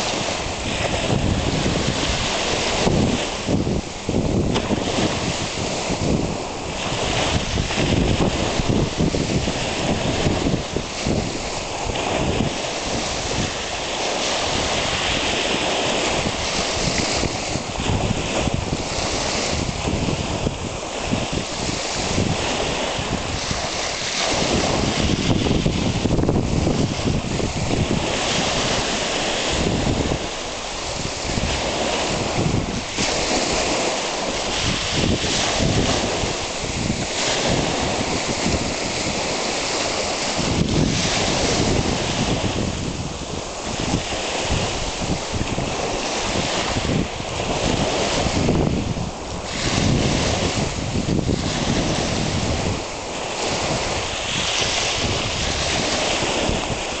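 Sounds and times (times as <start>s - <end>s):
waves washing over gravel: 0.0s - 57.0s
wind buffeting microphone: 0.0s - 57.0s.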